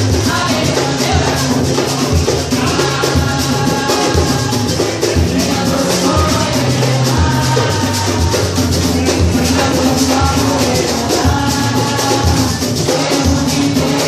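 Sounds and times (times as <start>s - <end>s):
deep bass drums: 0.0s - 13.9s
shakers: 0.0s - 14.0s.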